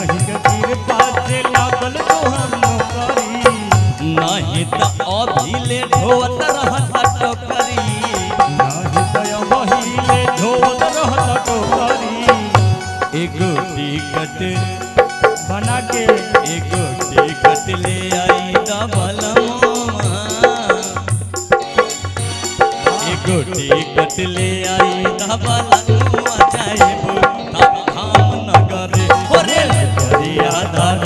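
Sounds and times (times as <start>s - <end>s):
hand drum beat: 0.0s - 31.0s
man singing into a microphone: 0.0s - 31.0s.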